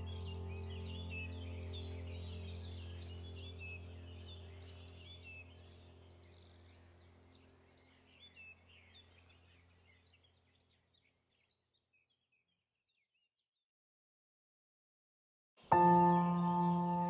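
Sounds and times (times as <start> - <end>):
small birds chirping: 0.0 - 13.5, 15.6 - 17.0.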